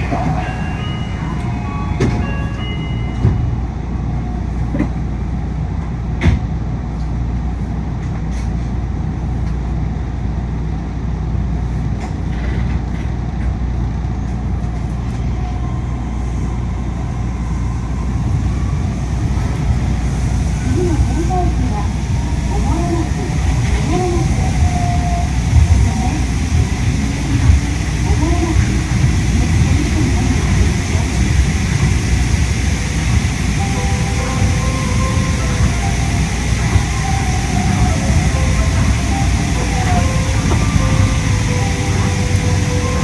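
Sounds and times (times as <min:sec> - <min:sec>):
monorail low rumble: 0:00.0 - 0:43.0.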